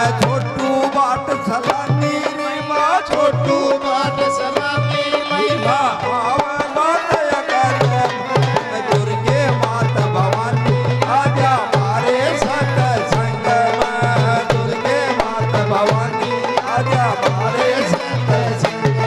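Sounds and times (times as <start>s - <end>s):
dholak drum rhythm: 0.0s - 19.0s.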